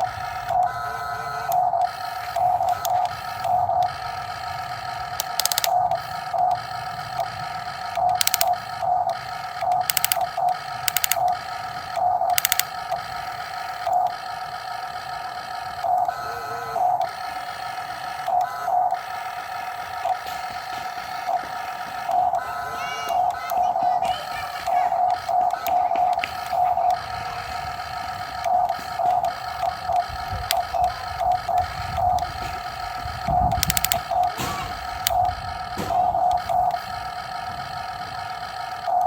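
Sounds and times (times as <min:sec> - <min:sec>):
rapid gear clicking: 0:00.0 - 0:00.8, 0:01.4 - 0:16.2, 0:16.8 - 0:39.0
toy electric motors whining: 0:00.0 - 0:39.0.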